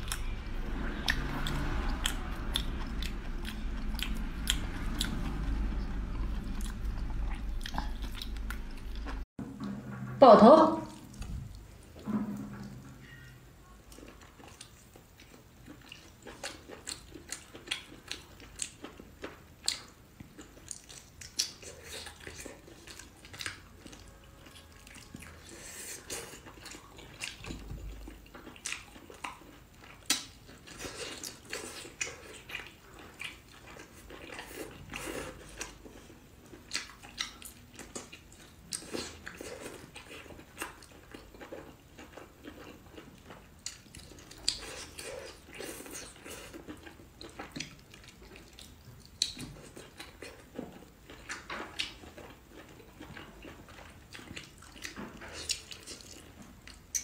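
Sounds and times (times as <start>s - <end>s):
person chewing with wet smacks: 0.0s - 9.3s, 13.8s - 57.0s.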